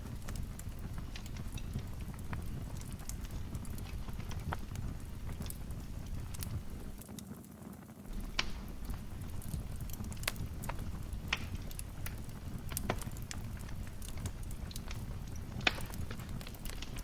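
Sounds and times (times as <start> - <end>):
fire burning rumble: 0.0 - 17.0
fire popping and snapping: 0.0 - 17.0.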